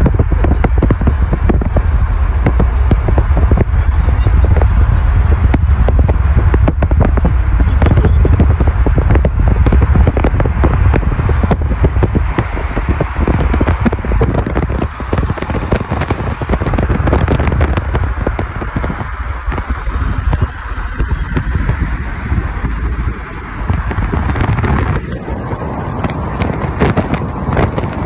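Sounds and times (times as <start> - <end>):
engine rumble: 0.0 - 28.0
exhaust popping and crackling: 0.0 - 28.0
tyre and wind noise: 0.0 - 28.0.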